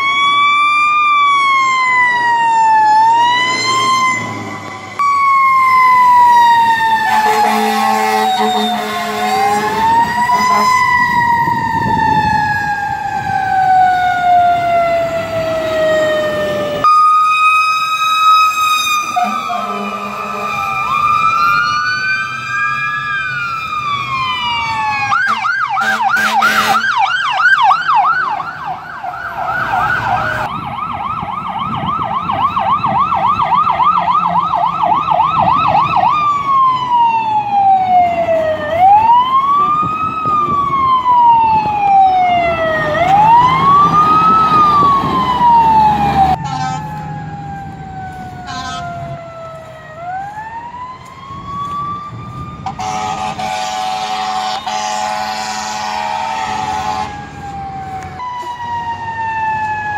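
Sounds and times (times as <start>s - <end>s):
fire truck sirens: 0.0s - 59.9s.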